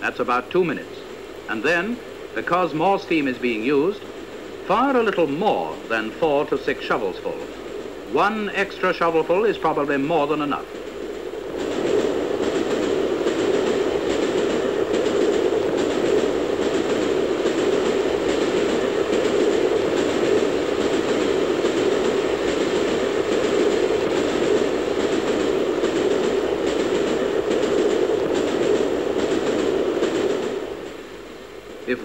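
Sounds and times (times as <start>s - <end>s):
steam locomotive running: 0.0s - 32.0s.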